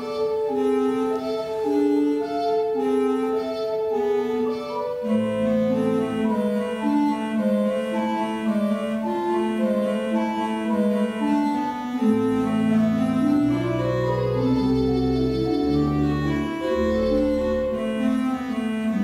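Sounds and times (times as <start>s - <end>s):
church organ playing chords: 0.0s - 19.0s
deep organ bass pedal notes: 0.0s - 19.0s.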